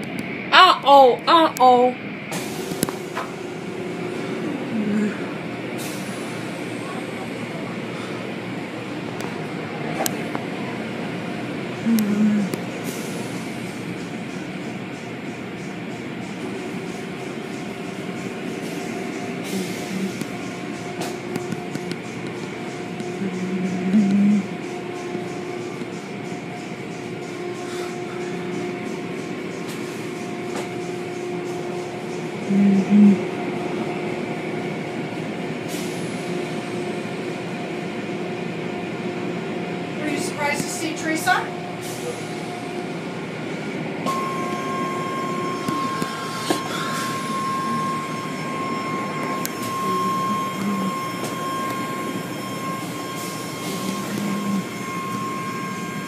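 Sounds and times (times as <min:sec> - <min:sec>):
car wash machinery drone: 0:00.0 - 0:56.0
steady mechanical noise: 0:00.0 - 0:56.0
steady whine: 0:00.0 - 0:56.0.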